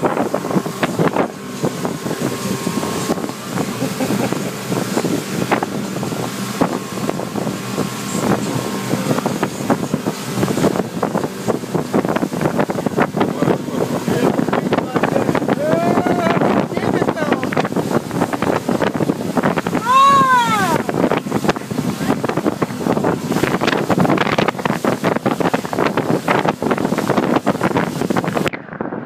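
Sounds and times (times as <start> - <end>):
motorboat engine humming: 0.0 - 29.0
water rushing past hull: 0.0 - 29.0
wind buffeting microphone: 0.0 - 29.0.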